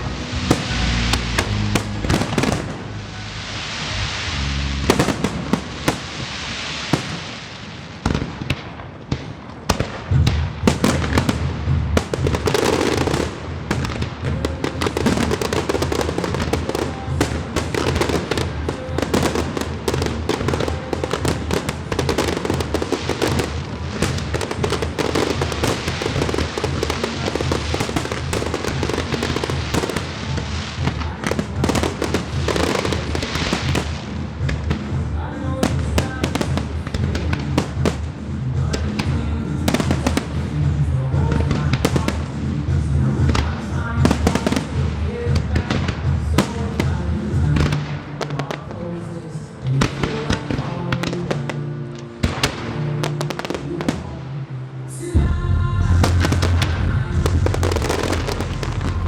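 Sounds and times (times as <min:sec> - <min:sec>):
music with steady bass line: 0:00.0 - 0:06.0, 0:10.2 - 0:47.9, 0:54.9 - 0:59.0
fireworks bangs and crackles: 0:00.0 - 0:59.0.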